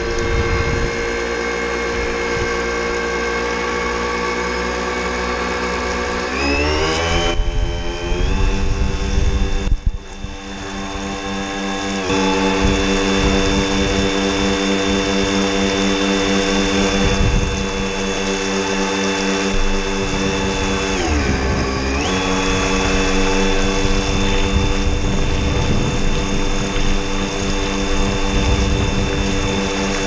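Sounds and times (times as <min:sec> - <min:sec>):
electric motor whining: 0:00.0 - 0:30.0
water rushing: 0:00.0 - 0:30.0
wind: 0:00.0 - 0:30.0.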